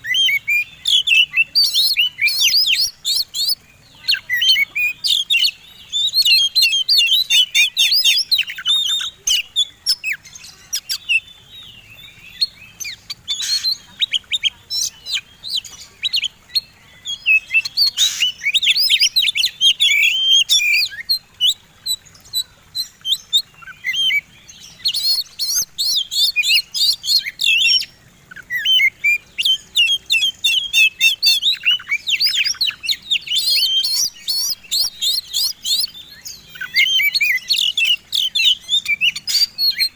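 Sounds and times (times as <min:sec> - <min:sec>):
birdsong with whistles and clicks: 0:00.0 - 0:39.9.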